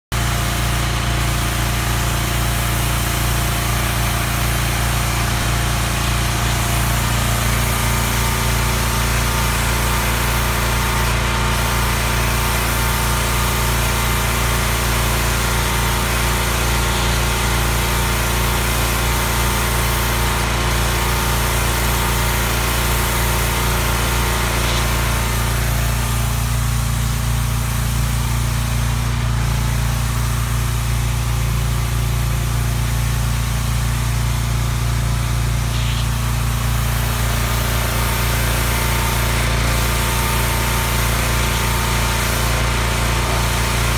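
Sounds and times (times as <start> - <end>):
pressure washer motor drone: 0.1 - 43.9
water jet spraying wooden fence: 0.2 - 43.9.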